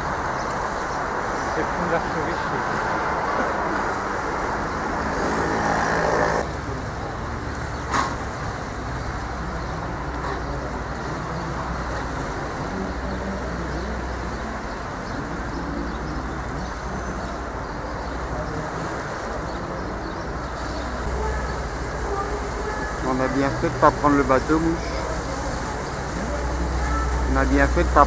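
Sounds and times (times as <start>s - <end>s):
road hum from passing cars: 0.0s - 28.0s.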